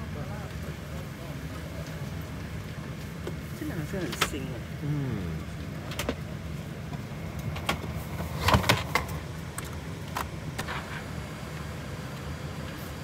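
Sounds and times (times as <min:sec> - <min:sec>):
ventilation hum: 0:00.0 - 0:13.0.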